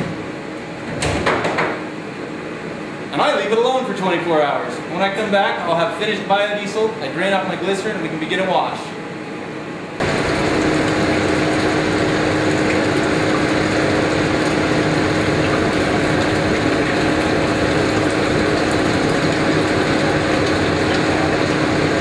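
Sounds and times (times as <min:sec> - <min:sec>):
stirring motor humming: 0:02.9 - 0:22.0.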